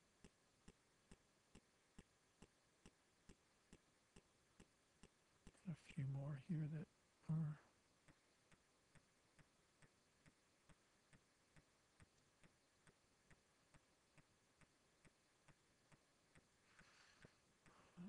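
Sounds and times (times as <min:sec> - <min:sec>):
faint regular ticking: 0:00.0 - 0:18.0
soft hiss: 0:00.0 - 0:18.0.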